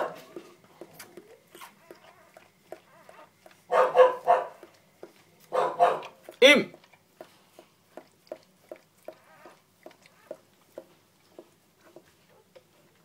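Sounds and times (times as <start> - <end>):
puppies chewing mouth smacks: 0.2 - 13.0.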